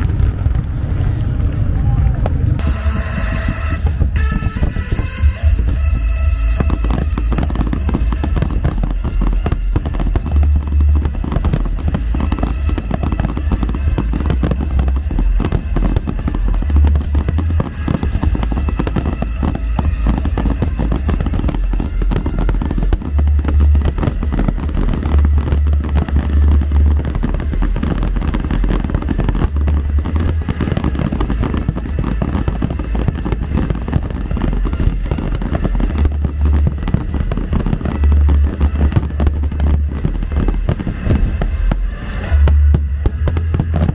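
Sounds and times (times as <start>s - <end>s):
deep firework booms: 0.0s - 43.9s
firework bursts and crackling: 0.0s - 43.9s.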